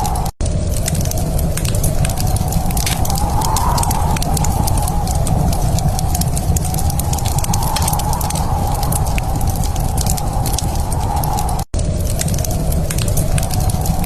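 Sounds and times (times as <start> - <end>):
low rumble: 0.0 - 14.0
wood fire crackling: 0.0 - 14.0.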